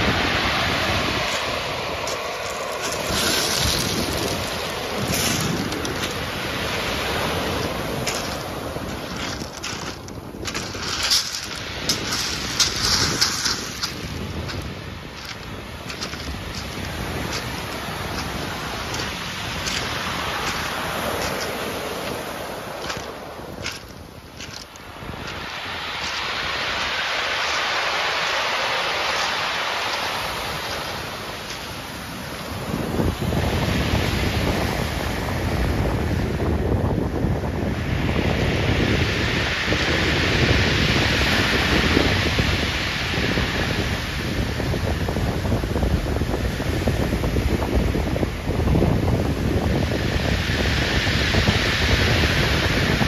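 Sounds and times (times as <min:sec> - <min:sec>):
wind buffeting microphone: 0:00.0 - 0:28.2, 0:29.1 - 0:53.0
surf washing up pebble beach: 0:00.0 - 0:53.0.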